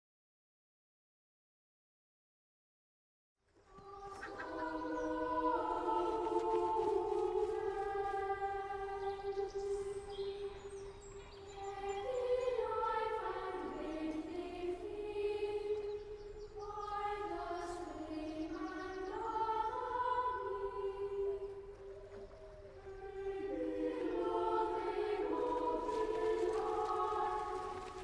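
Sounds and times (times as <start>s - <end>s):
choir of high voices singing: 3.7s - 28.0s.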